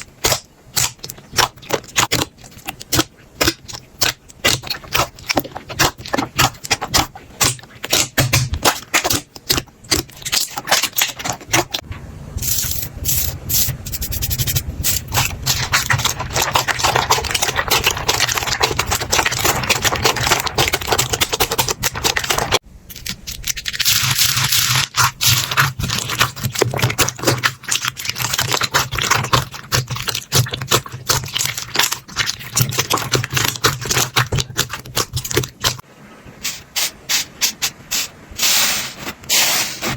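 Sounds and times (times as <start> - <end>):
slime crackling and popping: 0.0 - 11.8, 14.8 - 35.8.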